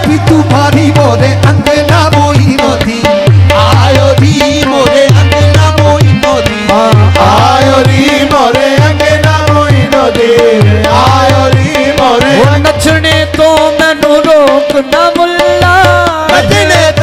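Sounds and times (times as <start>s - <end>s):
harmonium melody: 0.0s - 17.0s
tabla rhythm: 0.0s - 17.0s.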